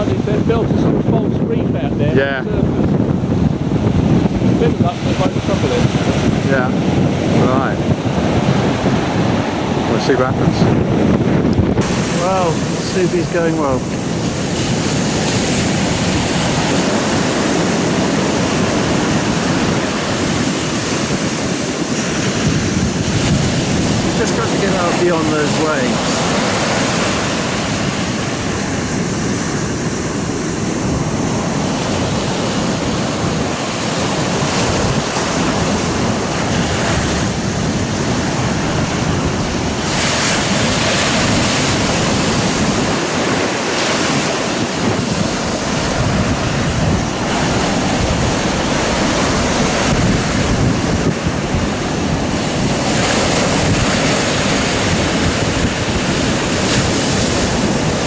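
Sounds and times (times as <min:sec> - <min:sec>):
surf washing on beach: 0:00.0 - 0:58.0
waves crashing: 0:00.0 - 0:58.0
wind buffeting microphone: 0:00.0 - 0:58.0.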